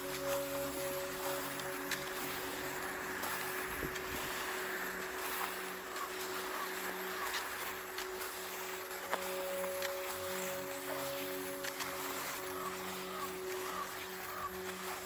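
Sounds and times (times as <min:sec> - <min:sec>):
faint drone tone: 0:00.0 - 0:15.0
river rapids rushing over rocks: 0:00.0 - 0:15.0.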